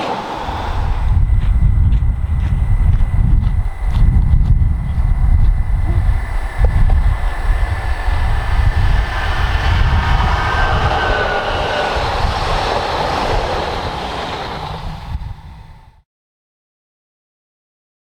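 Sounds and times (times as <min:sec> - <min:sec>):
train deep rumble: 0:00.0 - 0:15.9
rushing rail noise: 0:00.0 - 0:16.0.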